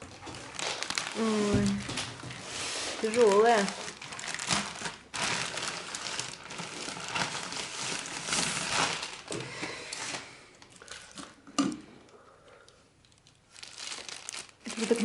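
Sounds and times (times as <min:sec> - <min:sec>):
packaging rustling: 0:00.0 - 0:11.4, 0:13.0 - 0:15.0.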